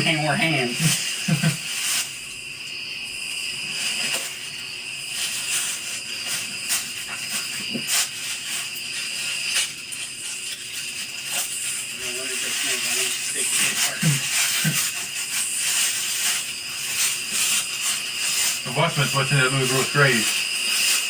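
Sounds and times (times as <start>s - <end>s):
night insects chorus: 0.0s - 21.0s.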